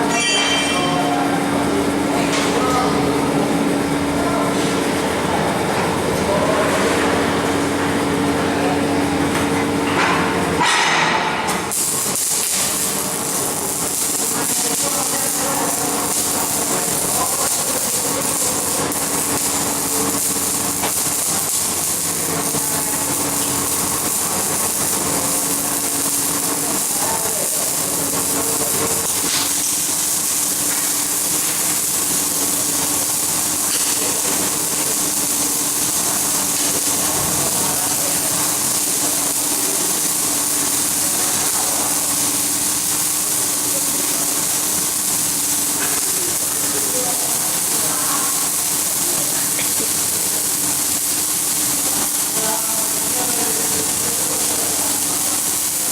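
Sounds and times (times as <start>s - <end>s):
faint machine hum: 0.0s - 55.9s
electric arc welding crackle: 8.9s - 55.9s.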